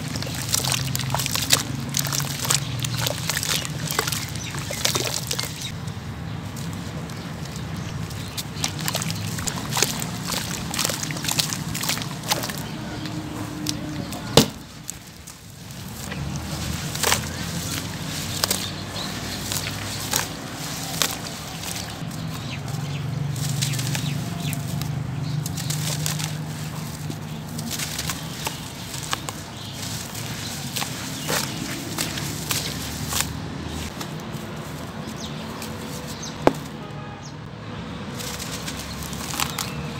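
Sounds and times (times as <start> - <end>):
wet sloshing: 0.0 - 36.9, 37.9 - 39.9
gritty crunching and crackling: 0.0 - 39.9.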